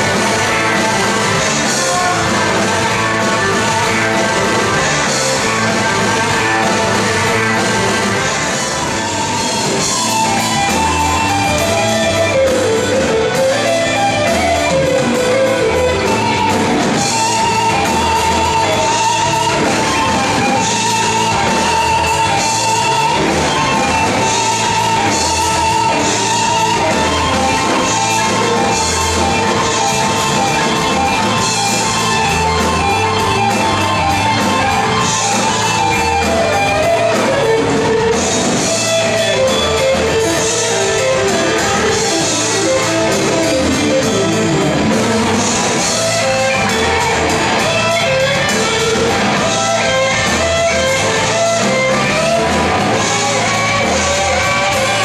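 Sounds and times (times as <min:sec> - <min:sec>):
bass guitar: 0:00.0 - 0:55.0
drum kit: 0:00.0 - 0:55.0
electric guitar lead: 0:00.0 - 0:55.0
keyboard: 0:00.0 - 0:55.0.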